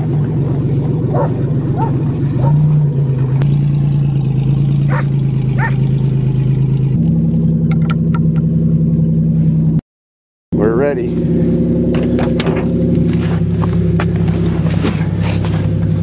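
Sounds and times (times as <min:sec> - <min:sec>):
car engine idling: 0:00.0 - 0:09.8, 0:10.6 - 0:16.0.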